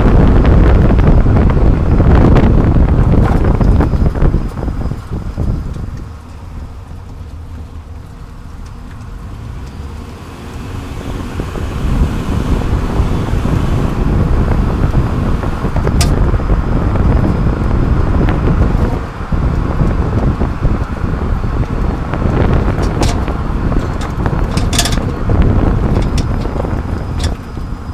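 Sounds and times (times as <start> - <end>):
road and tyre noise: 0.0 - 27.9
wind on microphone: 0.0 - 27.9.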